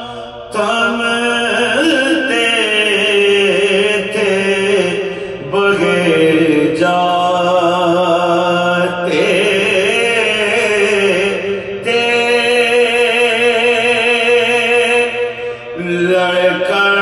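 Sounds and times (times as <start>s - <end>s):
man singing long wavering notes: 0.0s - 17.0s.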